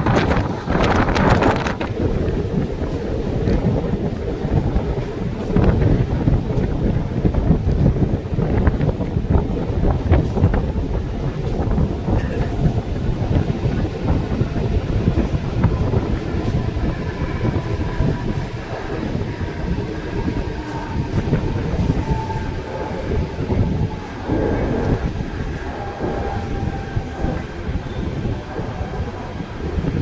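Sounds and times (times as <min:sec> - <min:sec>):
train coaches rumbling and rattling: 0:00.0 - 0:30.0.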